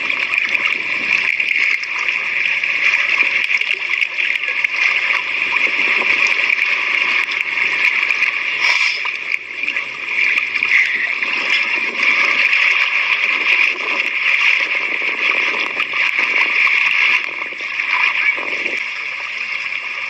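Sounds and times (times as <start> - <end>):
sea water splashing and lapping: 0.0 - 20.0.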